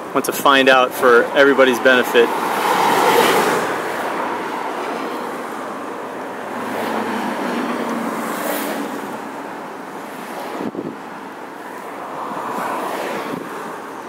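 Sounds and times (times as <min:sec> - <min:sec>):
car road noise: 0:00.0 - 0:14.0
passing traffic: 0:00.0 - 0:14.0.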